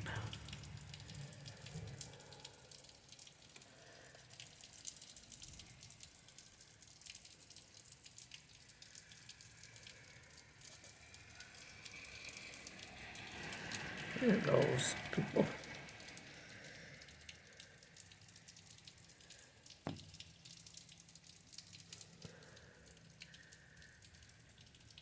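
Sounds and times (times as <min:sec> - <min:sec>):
faint steady rain: 0:00.0 - 0:25.0
rain drop ticks: 0:00.0 - 0:25.0.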